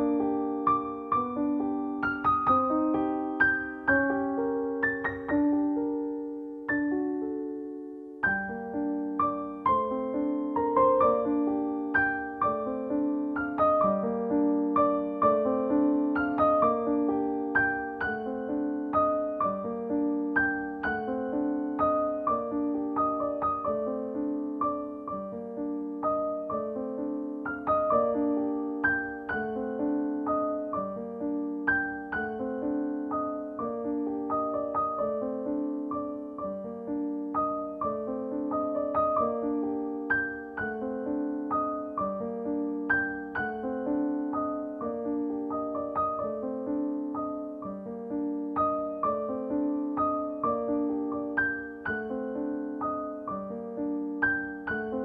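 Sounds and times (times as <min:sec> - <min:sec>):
gentle solo piano: 0:00.0 - 0:55.0.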